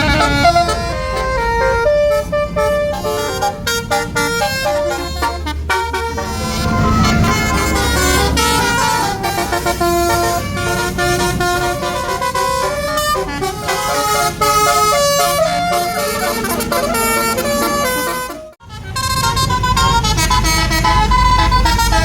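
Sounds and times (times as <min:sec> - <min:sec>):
musical bus horn playing a tune: 0:00.0 - 0:22.0.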